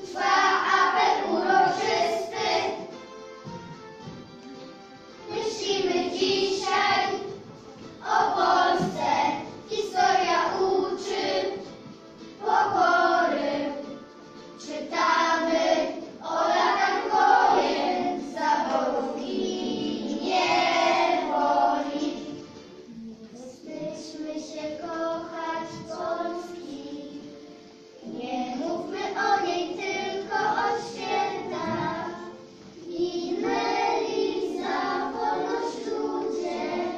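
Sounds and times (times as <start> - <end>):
children singing together: 0.0 - 3.1, 5.2 - 36.9.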